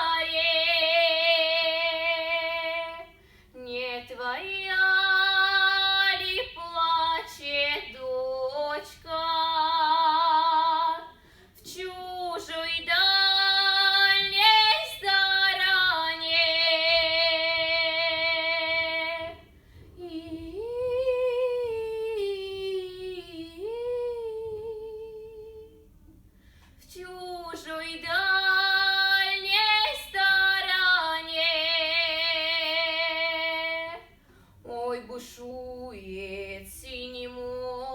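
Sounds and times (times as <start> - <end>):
girl singing a cappella: 0.0 - 26.0, 26.8 - 37.9.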